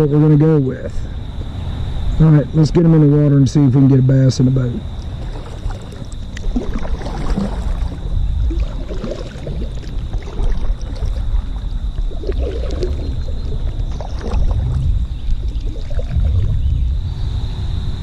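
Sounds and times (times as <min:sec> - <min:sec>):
low water rumble: 0:00.0 - 0:18.0.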